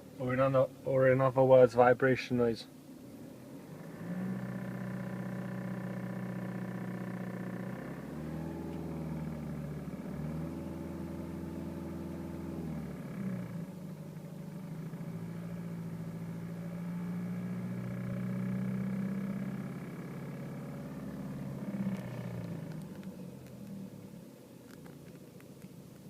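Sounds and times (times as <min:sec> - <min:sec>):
diesel engine running: 0:00.0 - 0:25.2.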